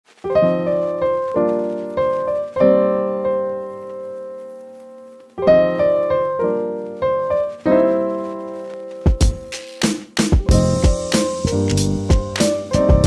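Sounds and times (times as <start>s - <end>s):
piano chords: 0.2s - 13.0s.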